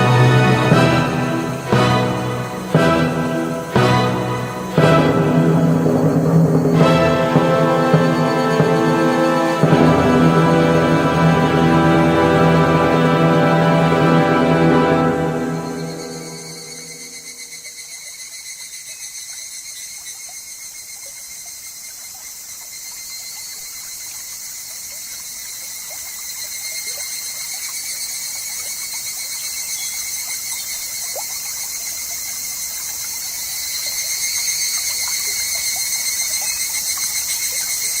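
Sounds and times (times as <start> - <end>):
cicadas trilling: 0.0 - 38.0
faint trickling stream: 0.0 - 38.0.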